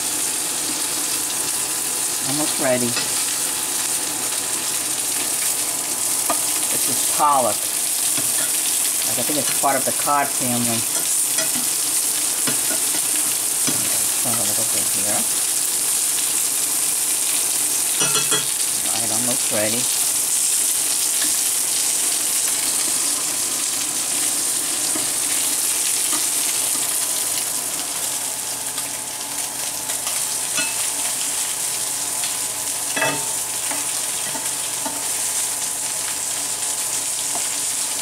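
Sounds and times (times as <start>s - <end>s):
fish fillets sizzling in oil: 0.0s - 38.0s.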